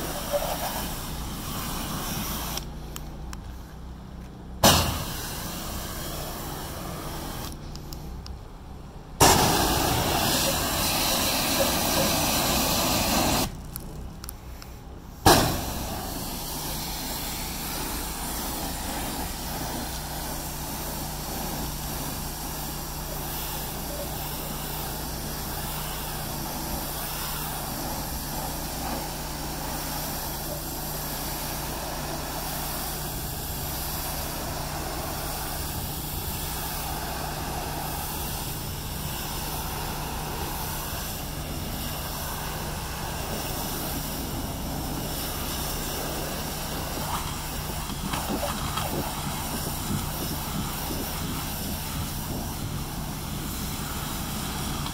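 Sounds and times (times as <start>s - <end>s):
pressure washer motor drone: 0.0s - 3.6s, 4.2s - 7.7s, 15.2s - 54.9s
water spray hissing on metal: 0.0s - 3.7s, 4.6s - 8.2s, 9.2s - 13.9s, 15.1s - 54.9s.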